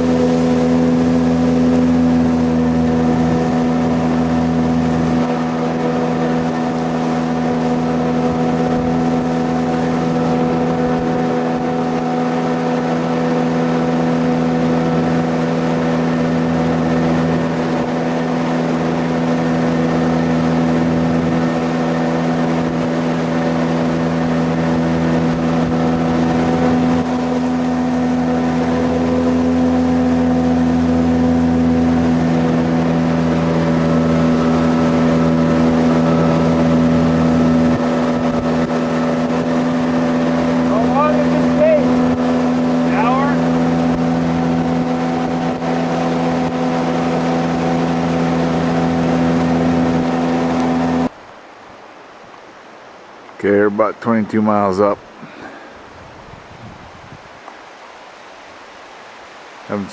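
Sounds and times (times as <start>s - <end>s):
boat engine droning: 0.0s - 59.9s
rushing water and wind: 0.0s - 59.9s.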